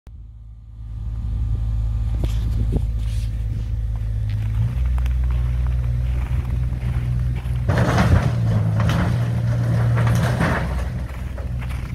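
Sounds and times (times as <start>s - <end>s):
engine running with low rumble: 0.1s - 11.9s.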